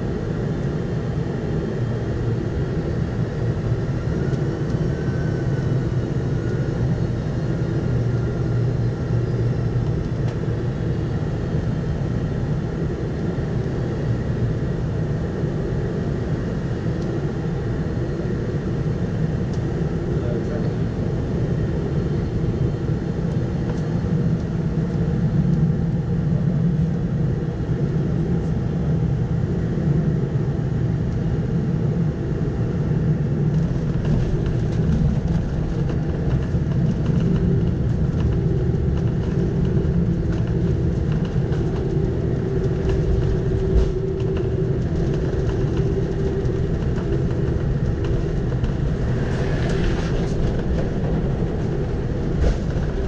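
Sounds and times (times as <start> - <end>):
jet engines and airflow rushing: 0.0 - 53.0.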